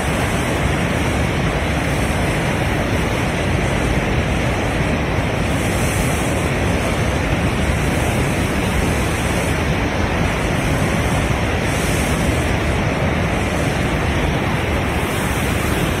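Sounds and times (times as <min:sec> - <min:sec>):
rushing flood water: 0:00.0 - 0:16.0.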